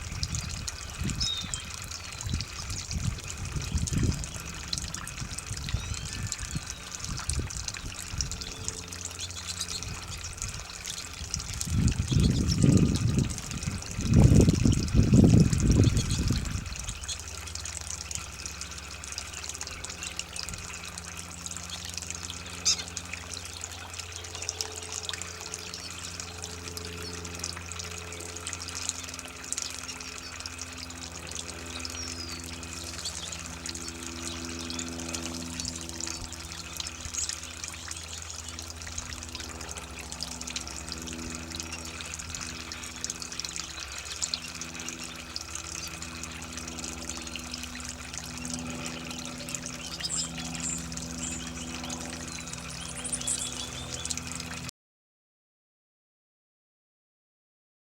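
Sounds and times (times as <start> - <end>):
water trickling onto ground: 0.0 - 54.7.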